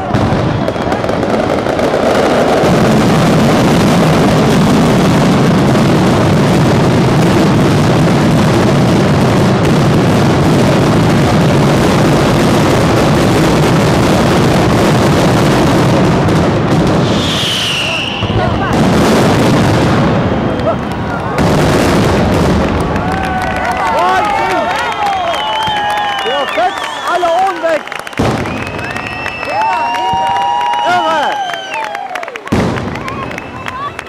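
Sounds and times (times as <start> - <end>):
rapid fireworks bangs: 0.0 - 34.0.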